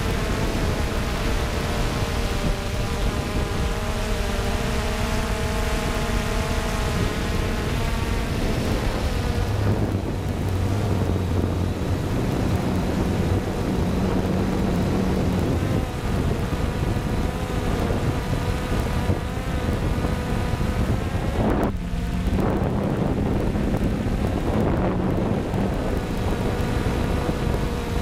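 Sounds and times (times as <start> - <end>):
drone propellers whining: 0.0 - 28.0
wind buffeting microphone: 0.0 - 28.0.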